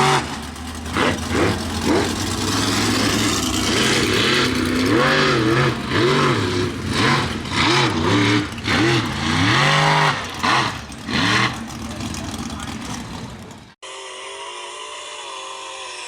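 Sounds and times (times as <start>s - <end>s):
truck engine revving: 0.0s - 13.8s.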